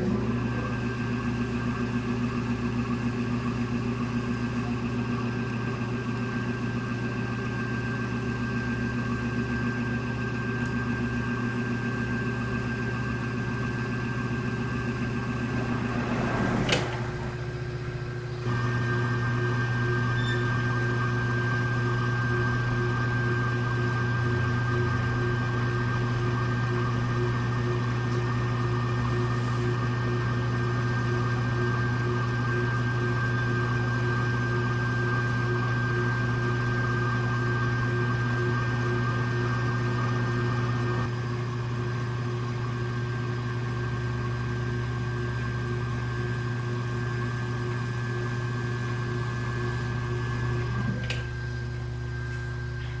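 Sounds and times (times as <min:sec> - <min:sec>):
potter's wheel motor humming: 0:00.0 - 0:53.0.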